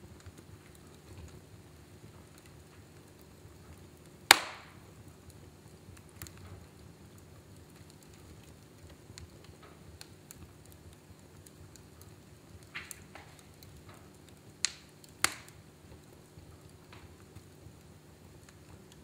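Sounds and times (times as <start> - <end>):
fireplace fire crackling: 0.0 - 19.0
loud fire pops: 0.1 - 19.0.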